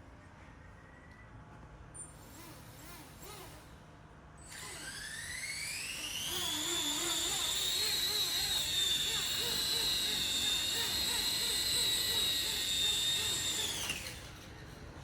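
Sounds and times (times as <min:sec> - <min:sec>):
electric motor and rotor whine: 0:02.0 - 0:15.0.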